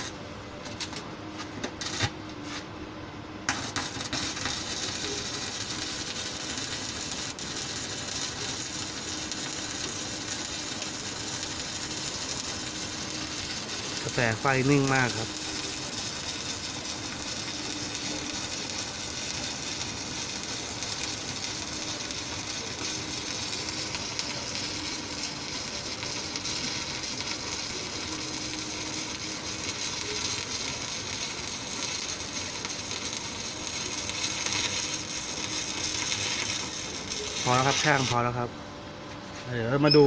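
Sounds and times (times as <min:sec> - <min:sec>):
welding arc hissing: 0:03.5 - 0:38.5.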